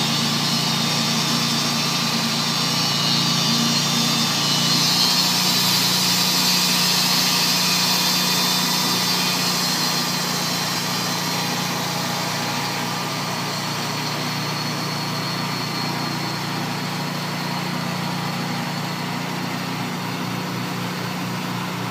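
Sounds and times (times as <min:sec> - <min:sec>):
band saw blade hissing through log: 0:00.0 - 0:21.1.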